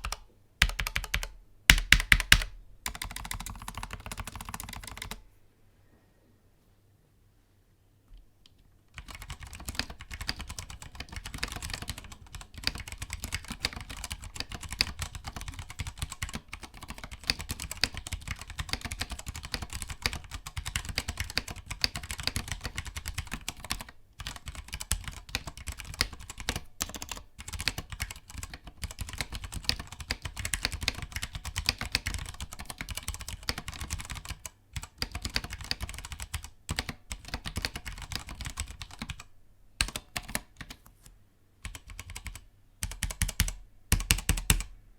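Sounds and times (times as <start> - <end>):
mechanical keyboard typing: 0.0 - 5.2, 8.9 - 40.8, 41.6 - 44.7.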